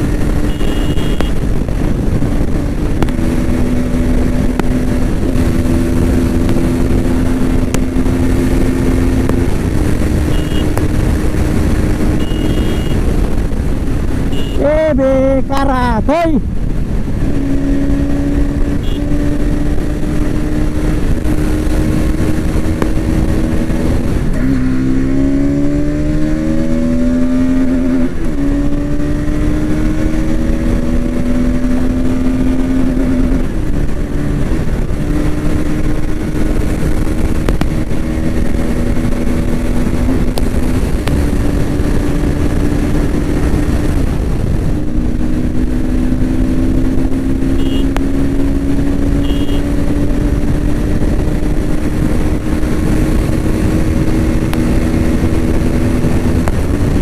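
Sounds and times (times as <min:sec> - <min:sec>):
motorcycle engine at high revs: 0:00.0 - 0:14.7, 0:15.5 - 0:57.0
wind noise rushing: 0:00.0 - 0:57.0.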